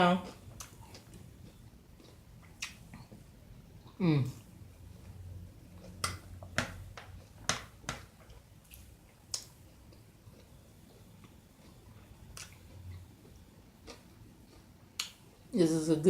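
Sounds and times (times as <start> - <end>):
chewing lettuce salad: 0.0 - 6.3, 8.3 - 15.6.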